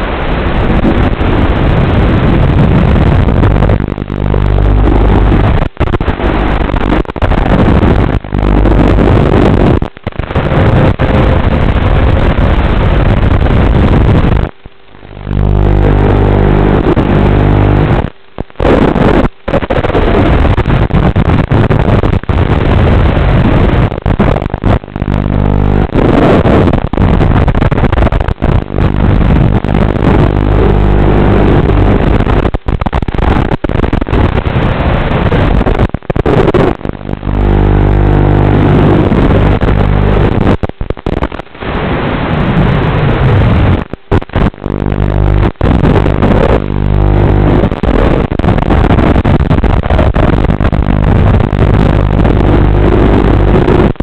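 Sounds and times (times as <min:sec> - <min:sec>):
crackly audio feed: 0:00.0 - 0:54.0.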